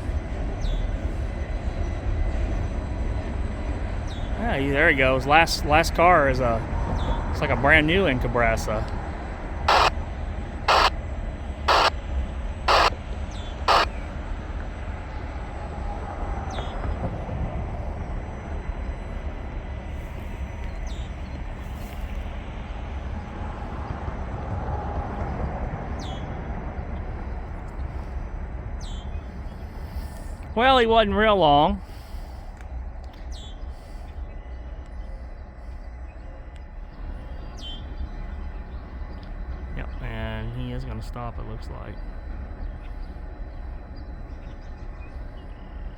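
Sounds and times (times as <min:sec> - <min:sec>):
steady low rumble: 0:00.0 - 0:45.9.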